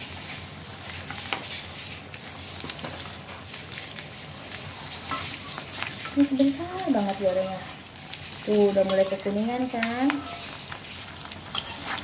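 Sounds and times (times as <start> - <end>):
deep-frying sizzle with pops: 0.0 - 12.0.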